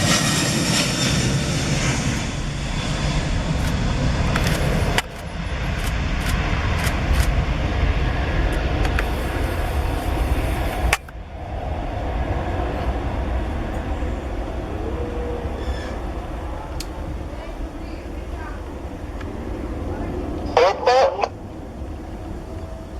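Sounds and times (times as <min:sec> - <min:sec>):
jet engines and wheels rumbling: 0:00.0 - 0:22.9.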